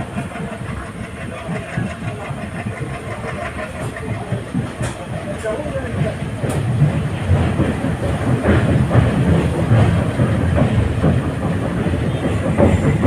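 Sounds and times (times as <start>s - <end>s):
train rumbling: 0.0s - 13.0s
wheels knocking on rails: 0.0s - 13.0s.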